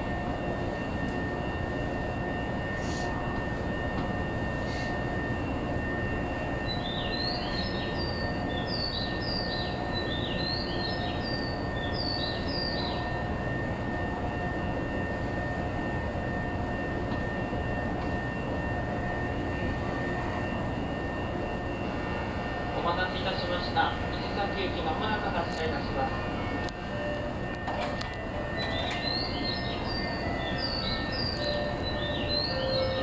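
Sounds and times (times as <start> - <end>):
thin high whine: 0.0 - 33.0
train equipment humming: 0.0 - 33.0.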